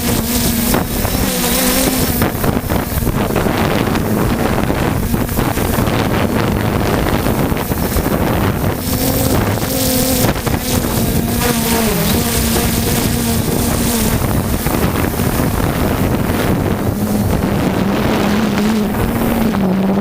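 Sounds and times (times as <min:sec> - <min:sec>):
quadcopter propellers humming: 0:00.0 - 0:20.0
wind buffeting microphone: 0:00.0 - 0:20.0.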